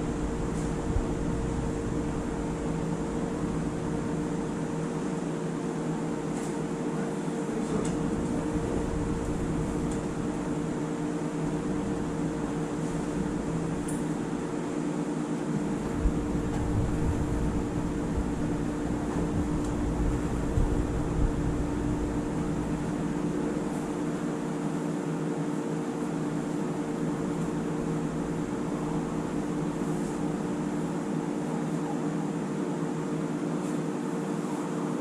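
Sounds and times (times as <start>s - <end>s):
mechanical hum: 0.0s - 35.0s.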